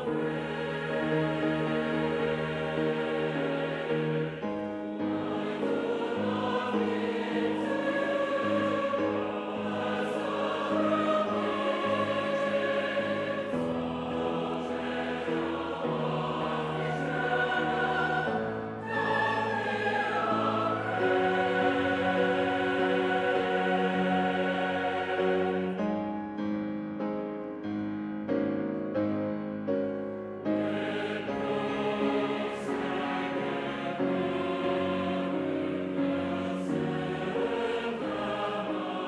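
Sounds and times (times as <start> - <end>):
choir singing in harmony: 0.0 - 26.5, 29.9 - 39.0.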